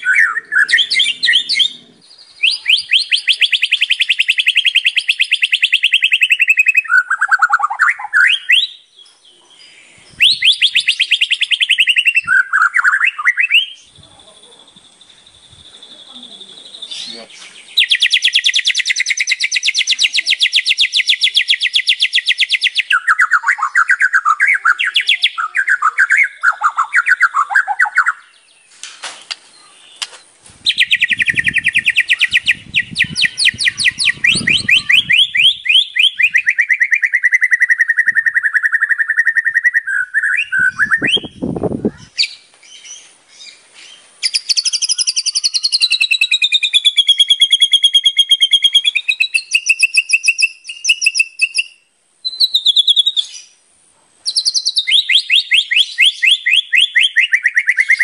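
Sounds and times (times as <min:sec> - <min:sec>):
songbird trilling and whistling: 0:00.0 - 0:28.6, 0:29.4 - 0:53.6, 0:54.2 - 0:58.0.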